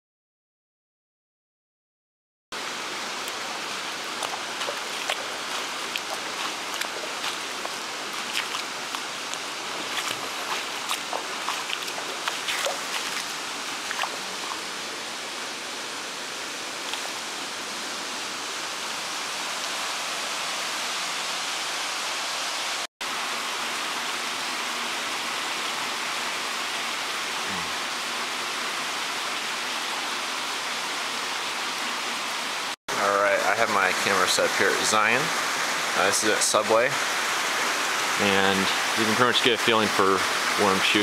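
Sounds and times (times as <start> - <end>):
creek rushing over rocks: 2.6 - 22.9, 26.9 - 41.0.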